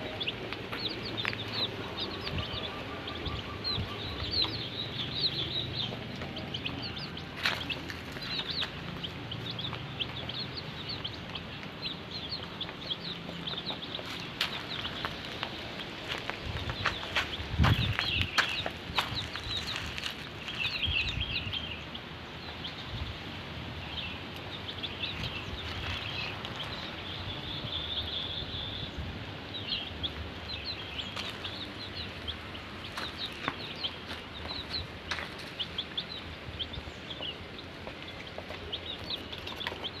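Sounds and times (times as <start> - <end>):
birds chirping: 0.0 - 40.0
steady outdoor hiss: 0.0 - 40.0.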